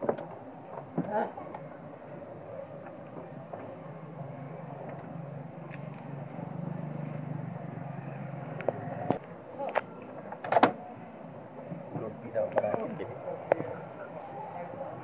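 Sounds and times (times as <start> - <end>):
motor vehicle humming: 0.0 - 15.0.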